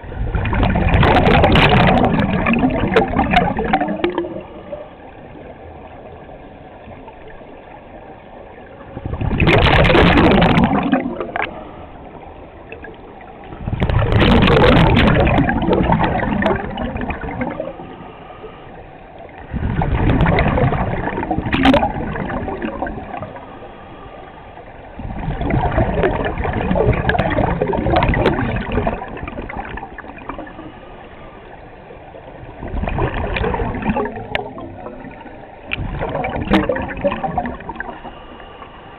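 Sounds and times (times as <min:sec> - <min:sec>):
scuba regulator exhaust bubbles: 0:00.0 - 0:23.7, 0:24.7 - 0:38.9.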